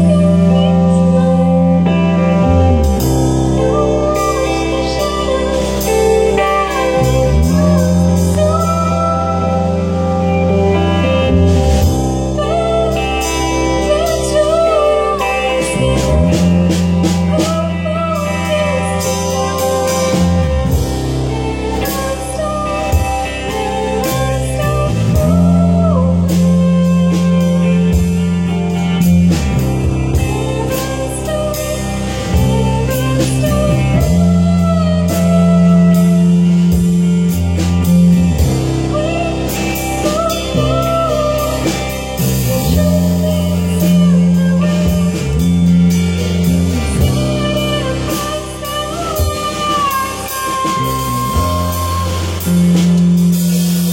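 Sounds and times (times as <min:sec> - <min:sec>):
bass line: 0:00.0 - 0:53.9
song with singing over guitar and drums: 0:00.0 - 0:53.9.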